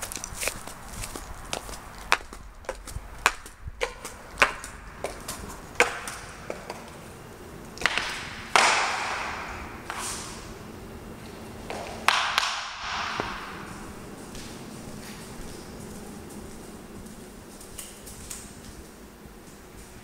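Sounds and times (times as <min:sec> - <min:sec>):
footsteps on tile floor: 0:00.0 - 0:20.0.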